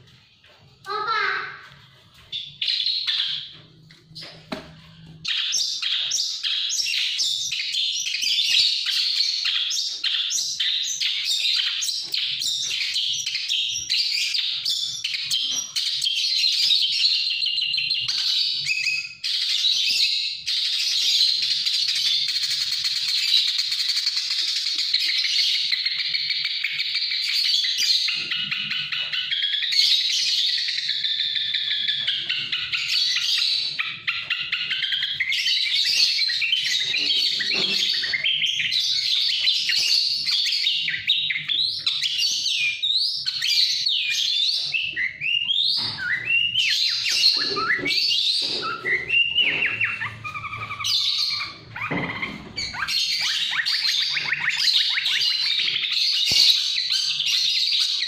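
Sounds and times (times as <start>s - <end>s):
bird singing high chirps: 2.2s - 58.0s.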